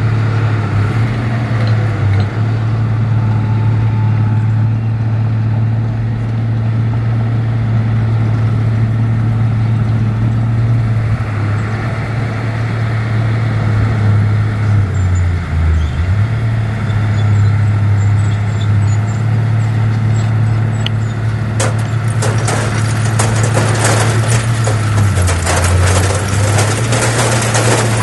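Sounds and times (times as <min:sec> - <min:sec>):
heavy diesel engine humming: 0:00.0 - 0:28.0.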